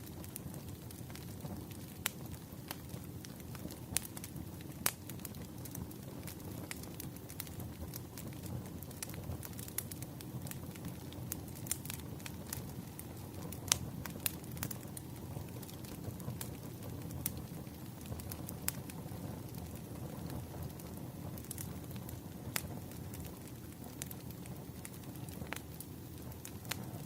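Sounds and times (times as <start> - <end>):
sharp pops of burning logs: 0.0 - 27.0
wood fire crackling: 0.0 - 27.0.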